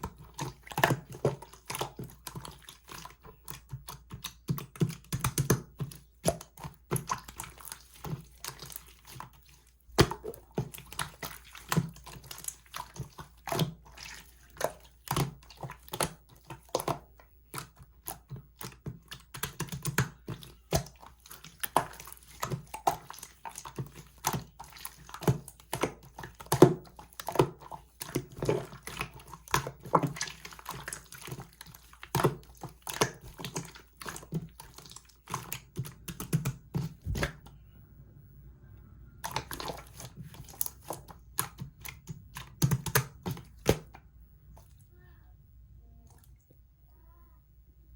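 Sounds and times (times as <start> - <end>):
slime squishing with wet pops: 0.0 - 37.6, 39.2 - 44.7.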